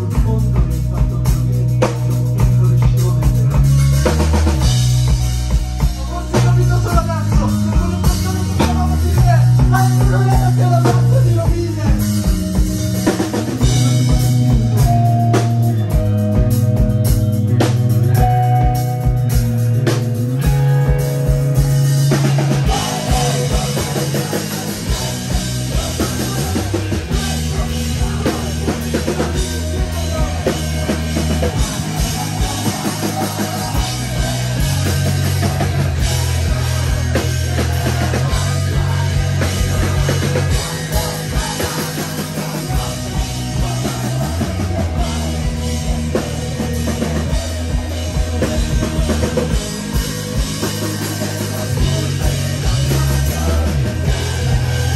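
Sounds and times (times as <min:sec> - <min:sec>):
rock band playing: 0:00.0 - 0:54.9.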